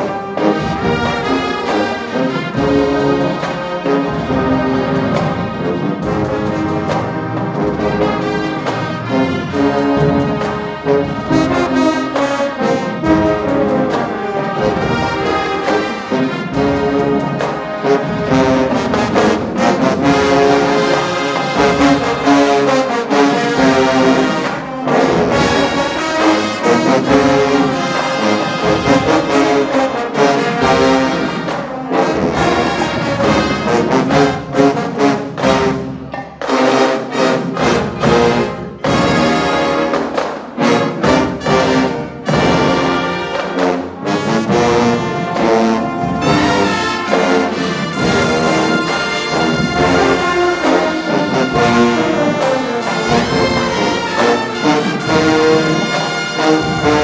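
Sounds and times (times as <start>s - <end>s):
brass section playing: 0.0s - 57.0s
drum hits: 0.0s - 57.0s.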